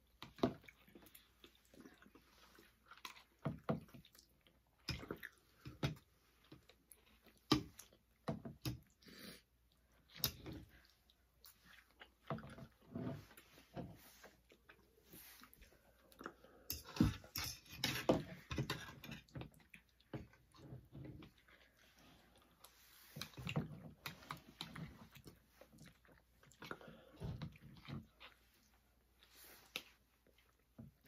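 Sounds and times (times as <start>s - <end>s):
people chewing: 0.0s - 31.0s.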